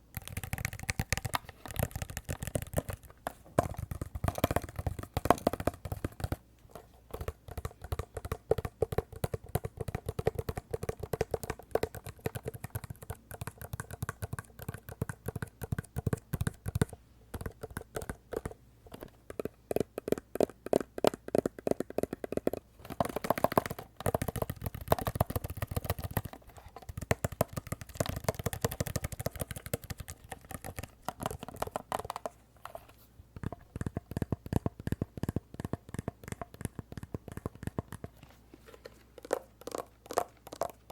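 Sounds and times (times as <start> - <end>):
rapid tapping on glasses case: 0.1 - 6.4, 7.1 - 32.4, 33.4 - 38.2.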